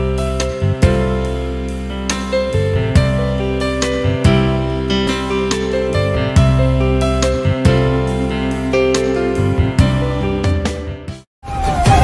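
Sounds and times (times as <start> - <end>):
gentle instrumental music: 0.0 - 11.3.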